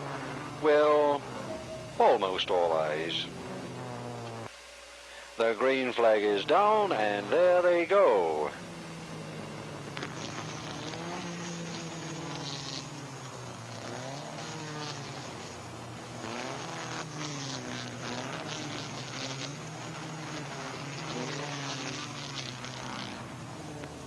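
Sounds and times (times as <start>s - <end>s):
racing car engines revving: 0.0s - 4.5s, 5.9s - 24.0s.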